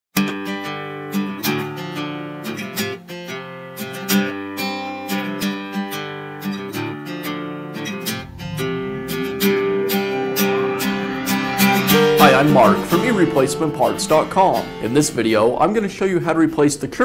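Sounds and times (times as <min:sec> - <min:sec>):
strummed guitar tune: 0:00.2 - 0:17.0.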